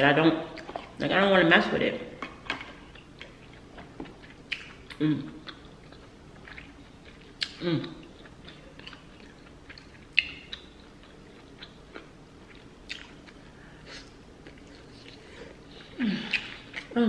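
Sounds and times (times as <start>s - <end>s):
person chewing and smacking: 0.5s - 1.0s, 2.2s - 17.0s.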